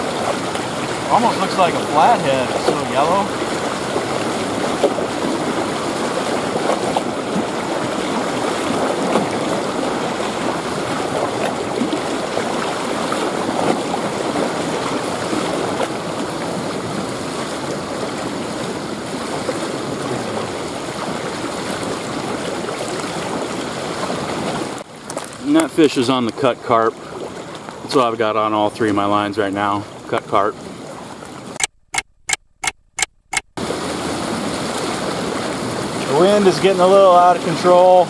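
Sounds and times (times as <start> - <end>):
lake water sloshing and lapping: 0.0 - 32.0, 33.0 - 38.0.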